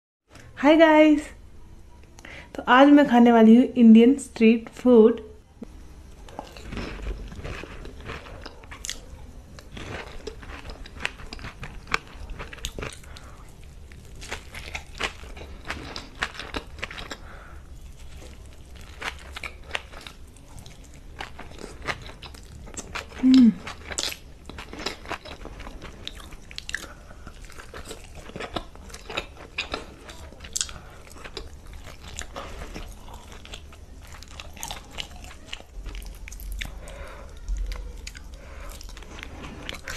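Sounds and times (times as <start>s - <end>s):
person crunching crisp snacks: 6.2s - 39.9s.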